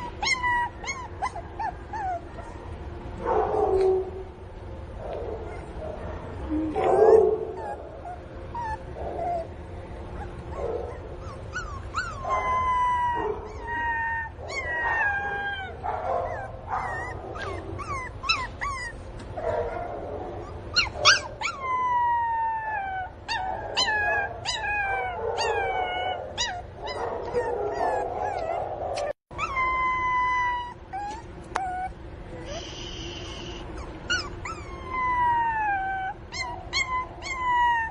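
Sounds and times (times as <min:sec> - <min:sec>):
puppy yelping: 0:00.0 - 0:02.7, 0:05.3 - 0:37.9
puppy crying and whining: 0:00.0 - 0:02.8, 0:05.4 - 0:37.9.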